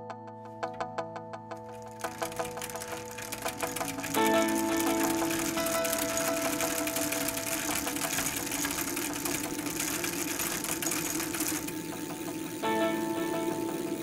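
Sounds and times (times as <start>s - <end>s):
background music: 0.0s - 14.0s
bicycle clicking and rattling: 1.5s - 12.8s.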